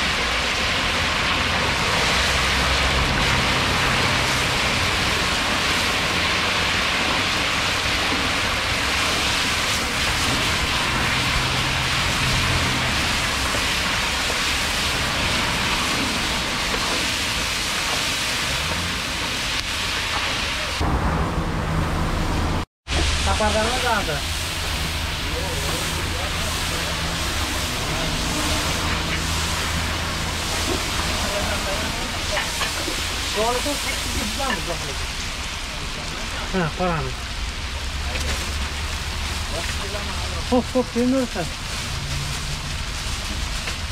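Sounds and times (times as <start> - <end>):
meat sizzling in hot oil: 0.0 - 20.8, 22.9 - 43.9
low rumble: 0.4 - 43.9.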